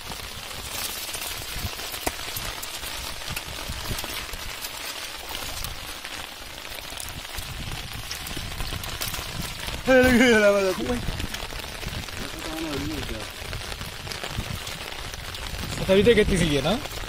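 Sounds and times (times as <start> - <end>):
rain falling on water: 0.0 - 17.0.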